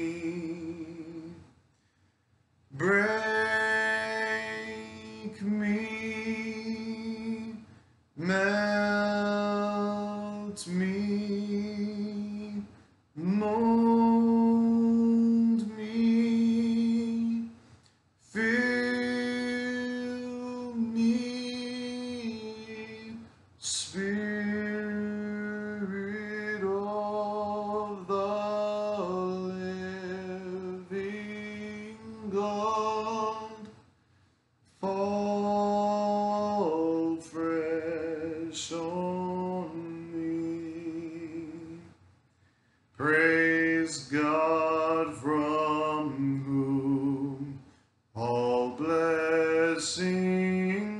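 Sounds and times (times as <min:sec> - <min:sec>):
man singing a hymn: 0:00.0 - 0:01.6, 0:02.7 - 0:42.0, 0:42.9 - 0:50.9.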